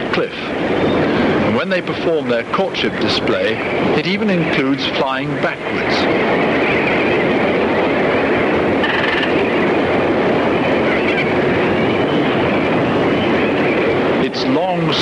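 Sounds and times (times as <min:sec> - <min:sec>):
sea rushing: 0:00.0 - 0:15.0
wind: 0:00.0 - 0:15.0.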